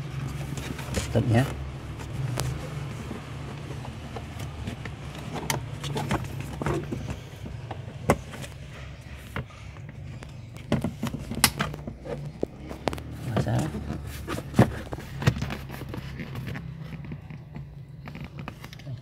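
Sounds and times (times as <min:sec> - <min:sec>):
plastic parts clicking and knocking: 0:00.1 - 0:19.0.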